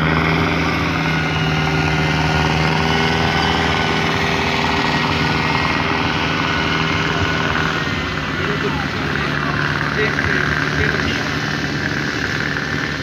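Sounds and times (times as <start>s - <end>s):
loud engine at high revs: 0.0s - 13.0s.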